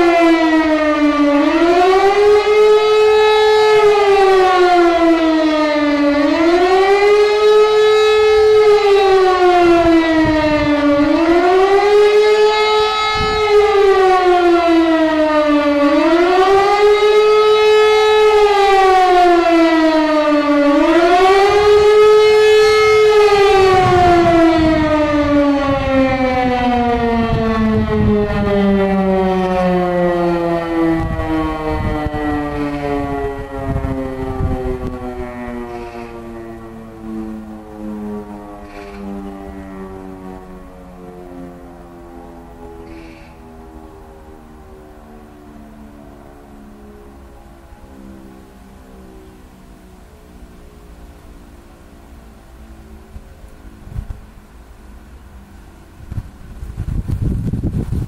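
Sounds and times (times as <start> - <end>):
civil defence siren wailing: 0.0 - 58.0.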